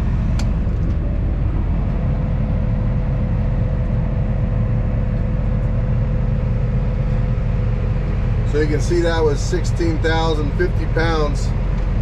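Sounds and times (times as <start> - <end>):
thin steady whine: 0.0 - 12.0
tractor engine running: 0.0 - 12.0.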